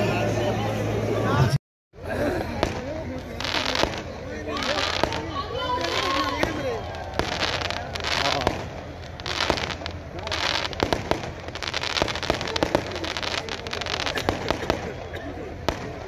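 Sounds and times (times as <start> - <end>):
fireworks crackling and popping: 2.3 - 16.0.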